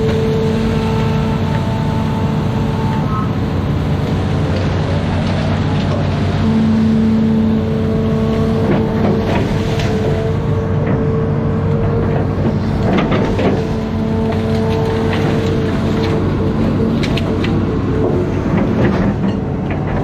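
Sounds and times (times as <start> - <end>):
diesel engine running: 0.0 - 20.0
steady whine: 0.0 - 20.0.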